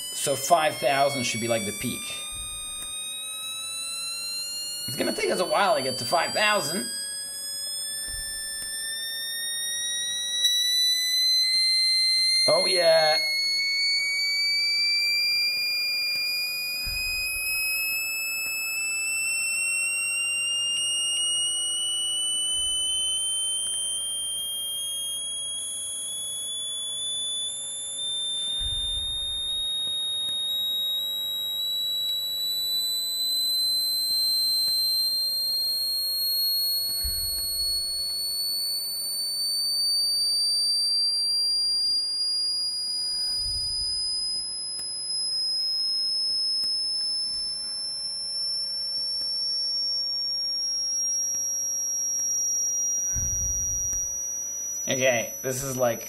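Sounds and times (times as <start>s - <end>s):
buzzer rising high-pitched tone: 0.0s - 56.0s.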